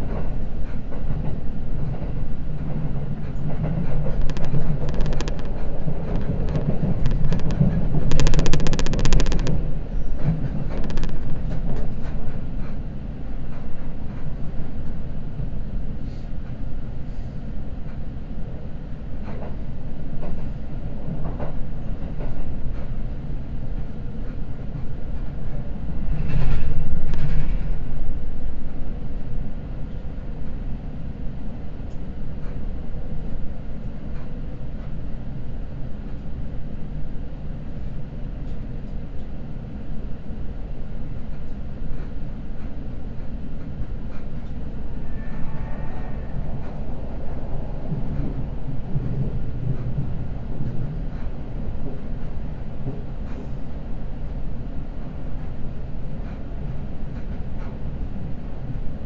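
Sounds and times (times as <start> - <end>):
train running on rails: 0.0 - 59.0.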